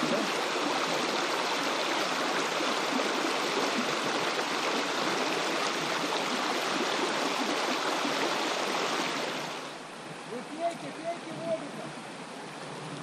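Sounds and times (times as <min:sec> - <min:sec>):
river water rushing over stones: 0:00.0 - 0:13.0.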